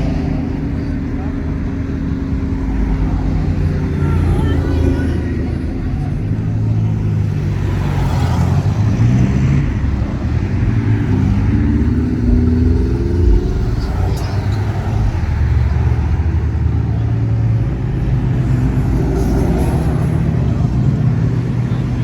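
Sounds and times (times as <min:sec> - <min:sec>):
car engine accelerating: 0:00.0 - 0:22.0
car engines rumbling past: 0:00.0 - 0:22.0.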